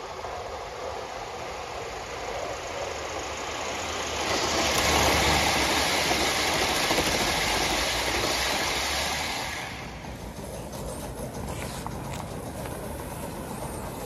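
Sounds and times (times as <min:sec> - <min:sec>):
train wheels rushing on rails: 0:00.0 - 0:14.0.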